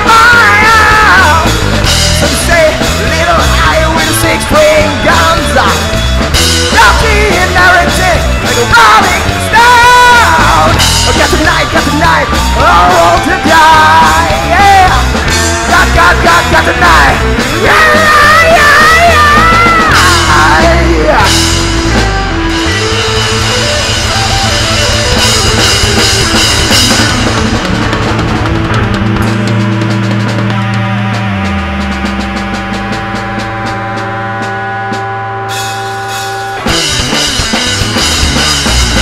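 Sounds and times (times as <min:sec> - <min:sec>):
rock band playing loud: 0:00.0 - 0:39.0.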